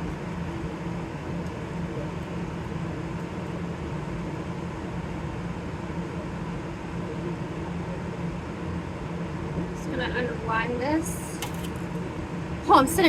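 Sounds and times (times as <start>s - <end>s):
kitchen fan and machinery hum: 0.0s - 13.0s.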